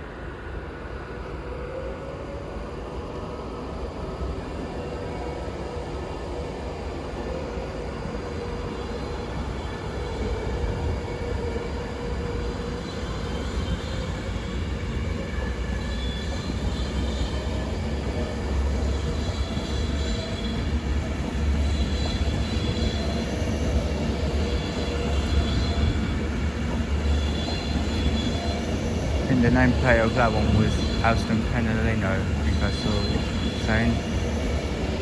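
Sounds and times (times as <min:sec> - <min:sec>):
electric train pulling away: 0:01.2 - 0:35.0.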